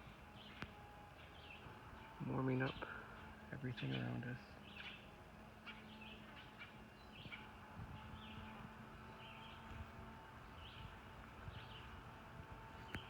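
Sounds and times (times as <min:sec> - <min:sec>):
low steady background hum: 0:00.0 - 0:13.0
songbird chirps: 0:00.0 - 0:13.0.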